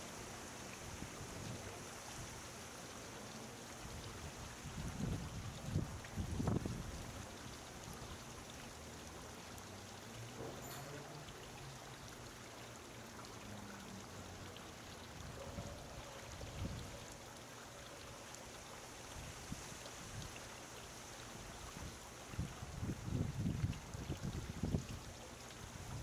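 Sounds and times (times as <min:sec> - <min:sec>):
fountain trickling: 0:00.0 - 0:26.0.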